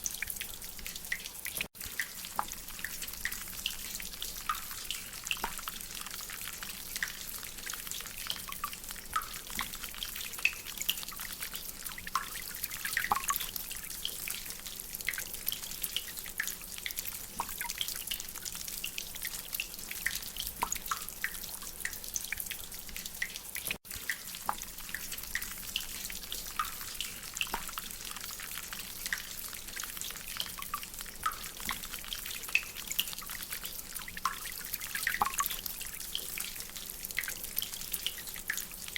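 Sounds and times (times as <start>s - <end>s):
steady hiss of rain: 0.0s - 38.9s.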